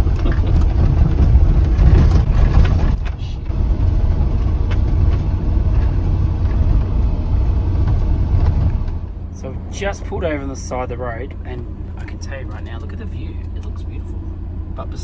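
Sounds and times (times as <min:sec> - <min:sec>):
knocks and rattles over ruts: 0:00.0 - 0:15.0
van engine and tyres rumbling: 0:00.0 - 0:15.0.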